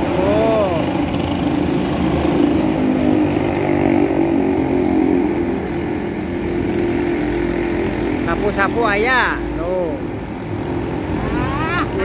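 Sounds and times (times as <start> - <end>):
motor traffic drone: 0.0 - 12.0
motorcycles passing: 0.0 - 12.0.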